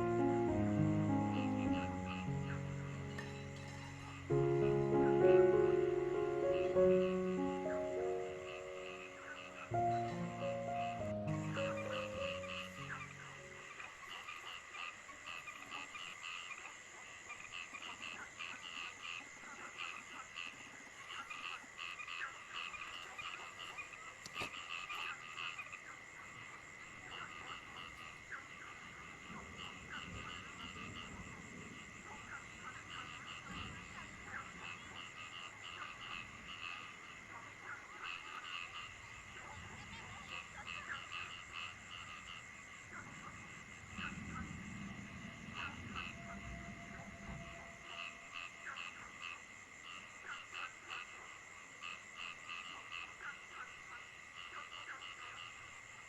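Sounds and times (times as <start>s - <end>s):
frogs croaking: 0.0s - 56.0s.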